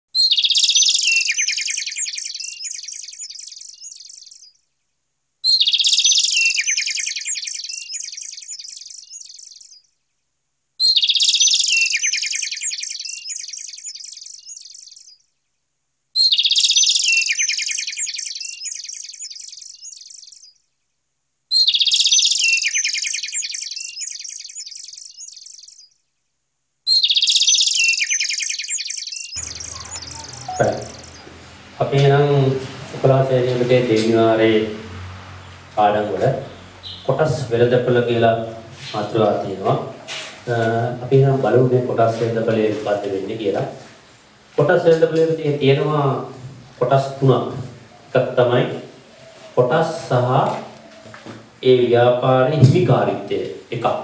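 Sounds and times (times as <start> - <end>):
birds chirping and trilling: 0.1 - 54.0.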